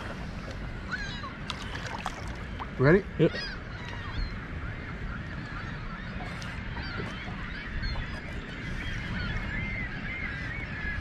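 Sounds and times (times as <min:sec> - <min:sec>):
waterbirds calling: 0:00.0 - 0:11.0.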